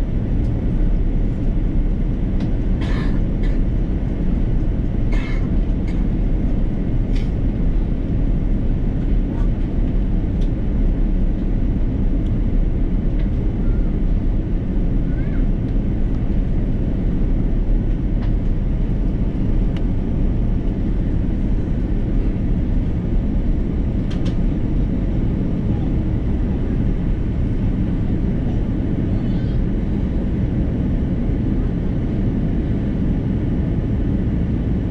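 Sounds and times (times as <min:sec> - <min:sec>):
aircraft cabin engine rush: 0:00.0 - 0:34.9.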